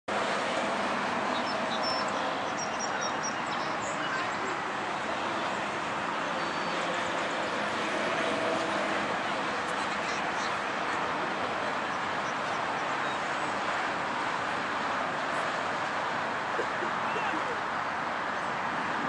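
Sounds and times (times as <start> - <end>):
faint distant voices: 0.2 - 18.7.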